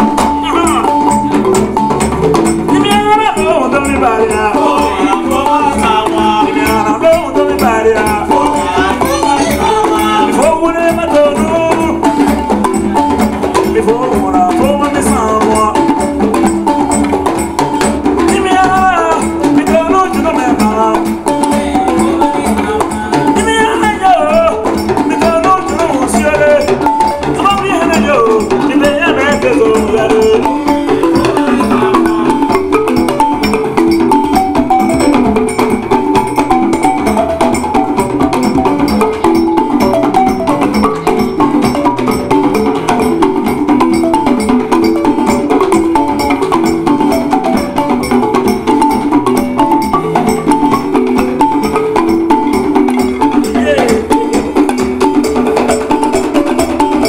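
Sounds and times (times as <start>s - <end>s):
balafon playing repeating pattern: 0.0s - 57.0s
hand drums: 0.0s - 57.0s.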